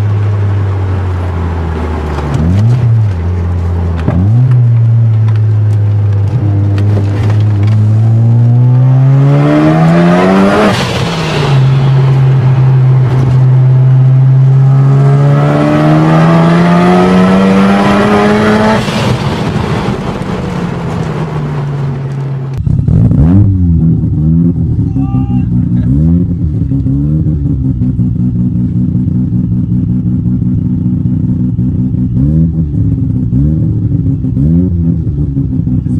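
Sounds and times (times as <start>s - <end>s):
rotary engine accelerating: 0.0s - 35.9s.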